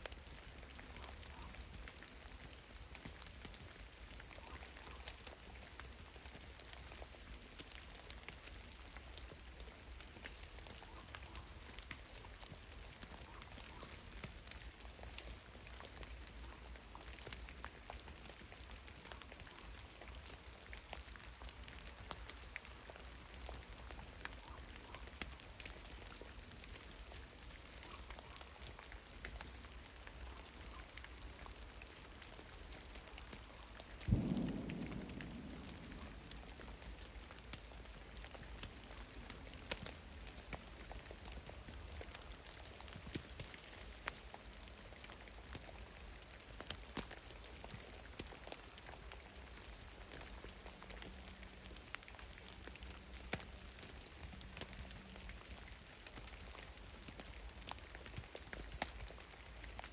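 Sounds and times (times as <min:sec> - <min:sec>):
meltwater drips: 0:00.0 - 0:59.9
rain-like patter: 0:00.0 - 0:59.9.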